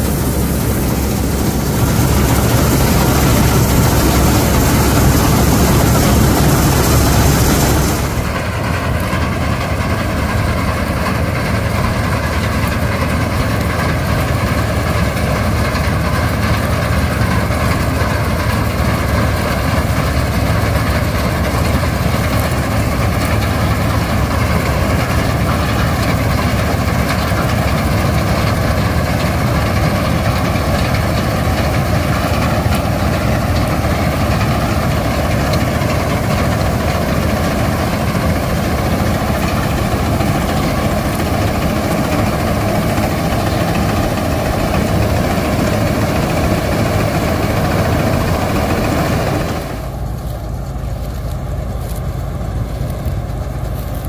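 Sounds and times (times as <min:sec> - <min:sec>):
combine harvester engine drone: 0:00.0 - 0:54.0
rushing machinery: 0:00.0 - 0:54.0.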